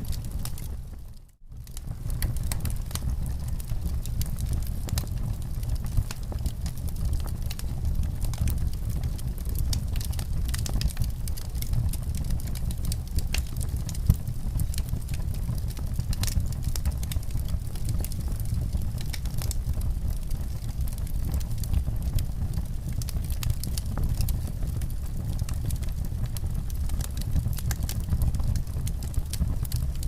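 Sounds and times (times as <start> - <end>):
low fire rumble: 0.0 - 30.0
wood fire crackling: 0.0 - 30.0.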